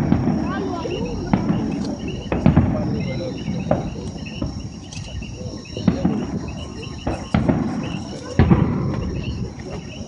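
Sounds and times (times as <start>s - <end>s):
distant fireworks bangs: 0.0s - 10.0s
night insects chirring: 0.0s - 10.0s.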